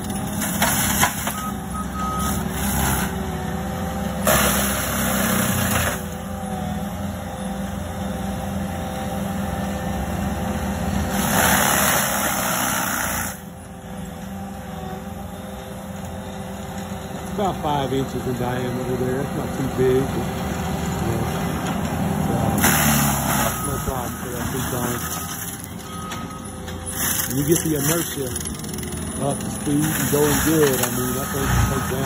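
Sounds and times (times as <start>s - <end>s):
diesel engine: 0.0s - 32.0s.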